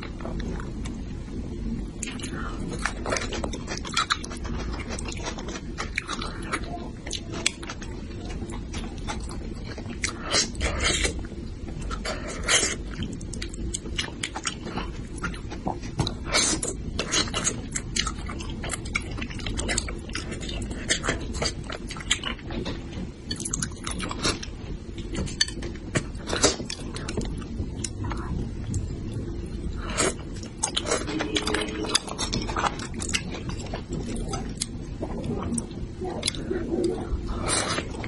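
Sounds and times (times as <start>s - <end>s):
person chewing: 1.8s - 22.5s, 23.2s - 38.0s.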